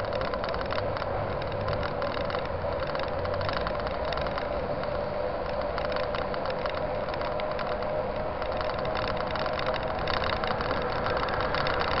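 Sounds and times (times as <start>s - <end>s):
bicycle freewheel ticking: 0.0s - 12.0s
tyres on wet asphalt: 0.0s - 12.0s.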